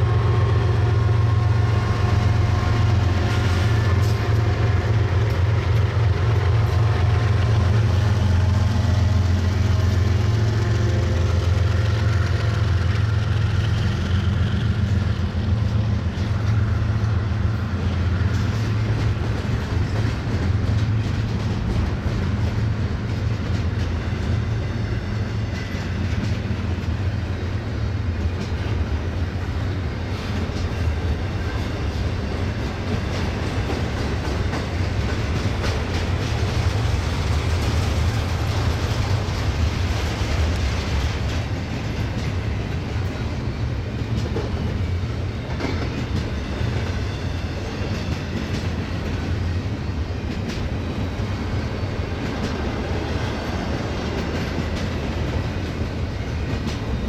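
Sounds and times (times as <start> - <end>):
wheels clacking over rail joints: 0.0 - 27.1, 28.1 - 57.0
steel wheels rumbling on rails: 0.0 - 57.0.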